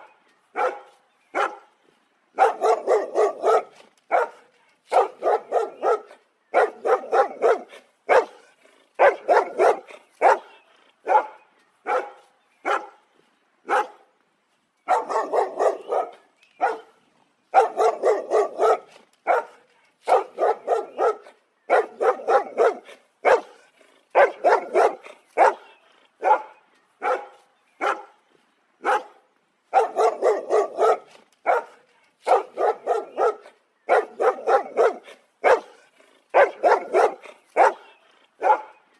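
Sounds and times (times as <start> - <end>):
dog barking: 0.0 - 1.7, 2.4 - 13.0, 13.7 - 14.0, 14.9 - 28.2, 28.8 - 38.8.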